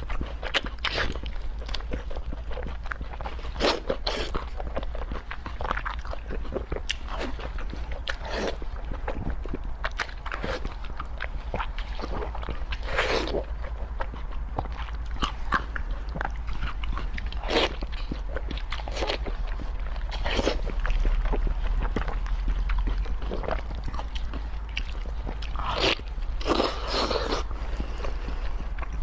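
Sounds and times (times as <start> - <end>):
food crunching: 0.0 - 29.0
person chewing and biting food: 0.0 - 29.0
steady low hum: 0.0 - 29.0.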